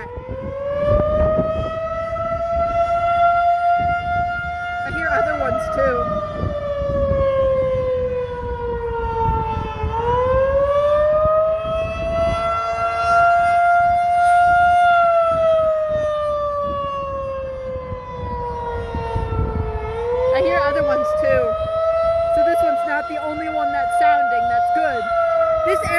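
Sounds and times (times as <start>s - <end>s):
warning siren wailing: 0.0s - 25.9s.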